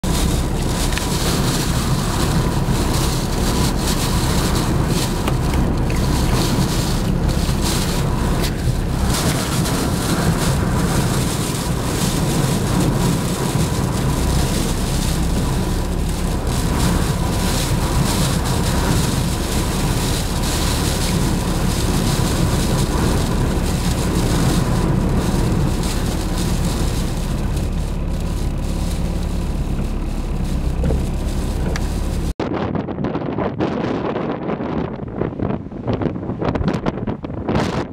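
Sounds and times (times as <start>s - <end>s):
blizzard wind blowing hard: 0.0s - 37.9s
wind buffeting microphone: 0.0s - 37.9s.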